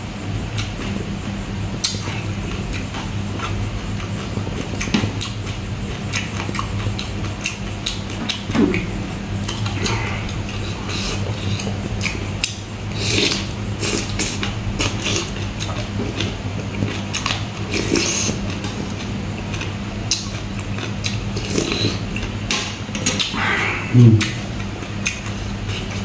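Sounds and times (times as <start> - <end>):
steady low hum: 0.0 - 26.0
chewing and lip-smacking: 0.5 - 23.4, 24.2 - 26.0.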